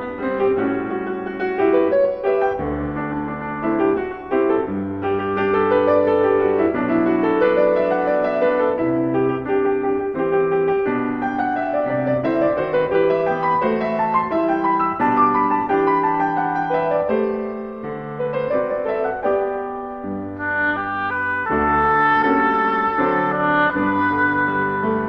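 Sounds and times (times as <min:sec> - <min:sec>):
keyboard instrumental music: 0:00.0 - 0:25.0.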